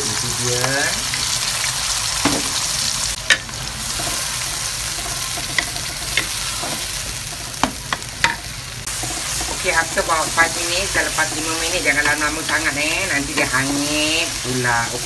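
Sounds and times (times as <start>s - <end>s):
spice paste sizzling in oil: 0.0s - 15.0s.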